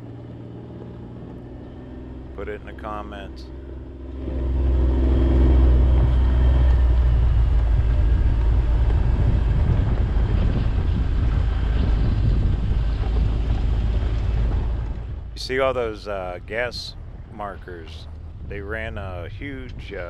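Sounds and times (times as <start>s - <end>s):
driving on rocky dirt trail: 0.0s - 20.0s
vehicle engine running: 0.0s - 20.0s
wind rumbling on microphone: 0.0s - 20.0s.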